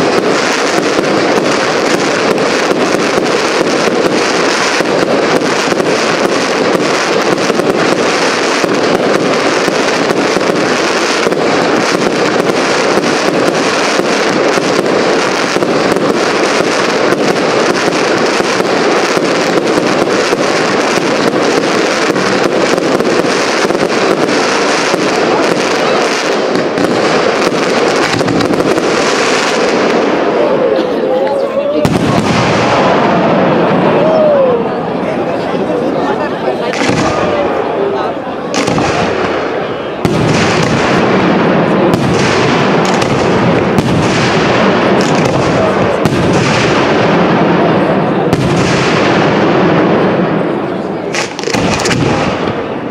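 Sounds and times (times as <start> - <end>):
fireworks crackling: 0.0 - 52.9.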